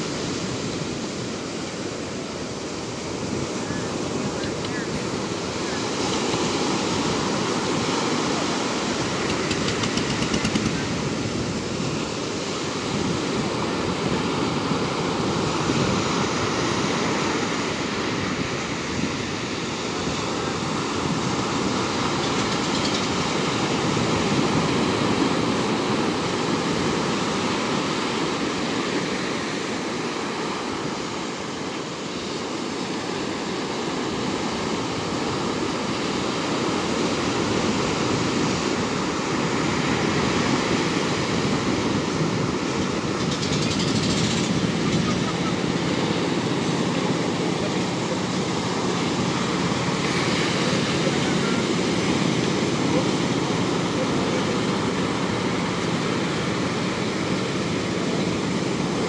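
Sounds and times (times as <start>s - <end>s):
ocean surf breaking: 0.0s - 59.0s.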